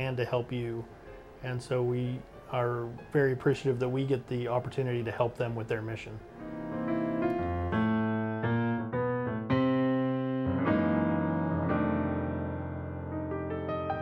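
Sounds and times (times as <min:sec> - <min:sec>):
piano-like keyboard music: 0:00.0 - 0:14.0.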